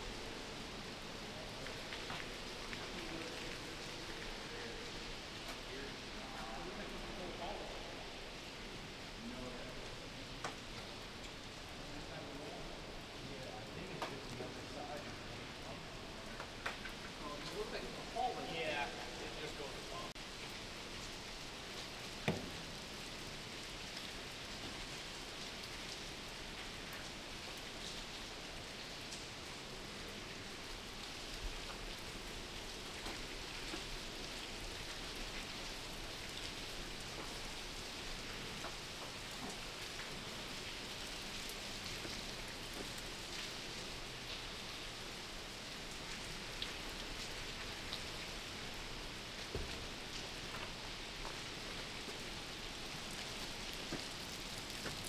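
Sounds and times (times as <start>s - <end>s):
faint drips: 0.0s - 55.0s
rain pattering: 0.0s - 55.0s.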